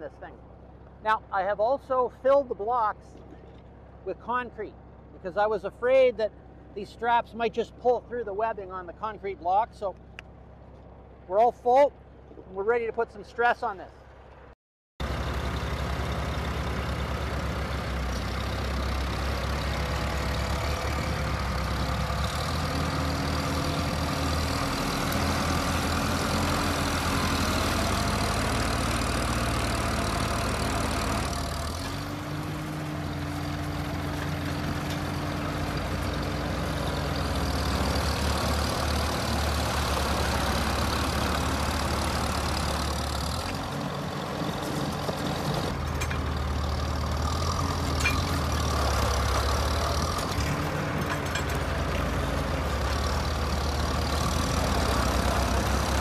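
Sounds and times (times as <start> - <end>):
tractor engines under load: 0.0 - 56.0.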